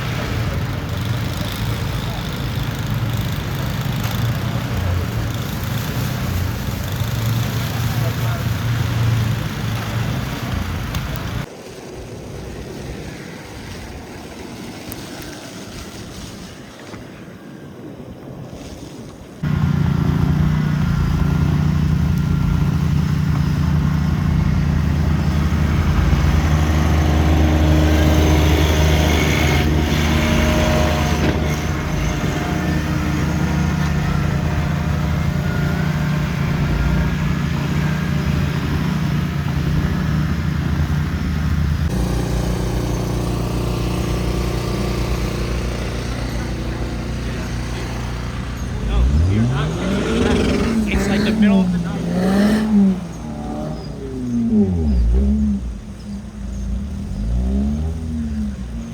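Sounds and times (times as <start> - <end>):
low vehicle engine rumble: 0.0 - 14.3, 19.4 - 58.9
city street ambience: 0.0 - 58.9.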